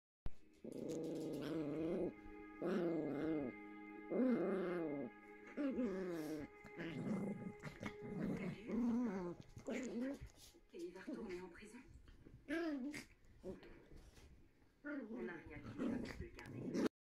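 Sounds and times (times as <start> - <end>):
puppies play-growling: 0.6 - 3.5, 4.1 - 14.3, 14.9 - 16.9.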